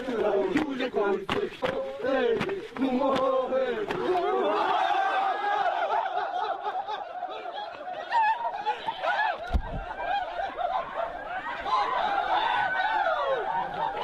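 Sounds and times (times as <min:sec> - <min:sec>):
group of people laughing and shouting: 0:00.0 - 0:14.0.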